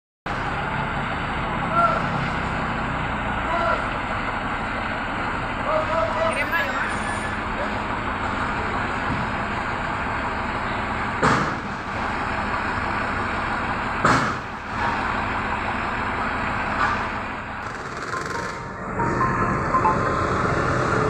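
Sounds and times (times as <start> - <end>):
road noise: 0.3 - 21.0
truck engine driving: 0.3 - 21.0.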